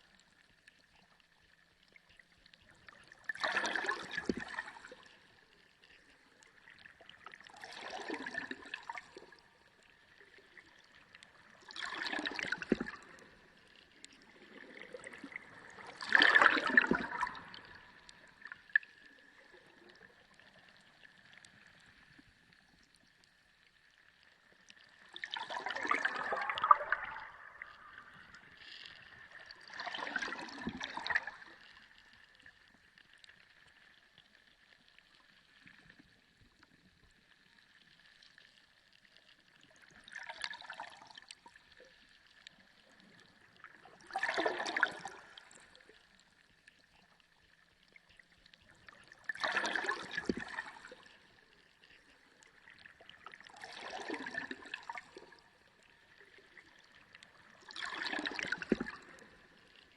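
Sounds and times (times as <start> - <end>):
underwater sea water swells: 0.0 - 59.9.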